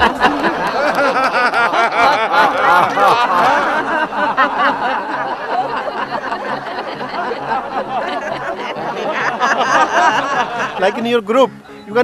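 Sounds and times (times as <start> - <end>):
group of people laughing: 0.0 - 11.2.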